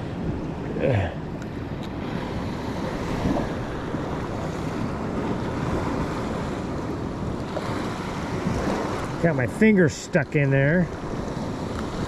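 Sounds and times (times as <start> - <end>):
ocean surf washing around rocks: 0.0 - 12.0
wind buffeting microphone: 0.0 - 12.0.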